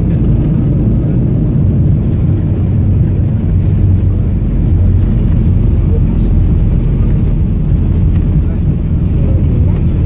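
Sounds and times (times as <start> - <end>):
aircraft cabin low rumble: 0.0 - 10.0.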